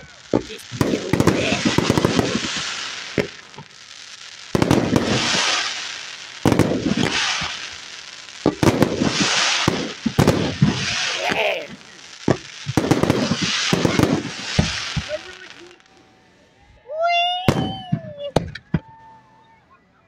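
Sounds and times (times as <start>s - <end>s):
fireworks bangs and crackling: 0.0s - 16.0s, 17.4s - 19.1s.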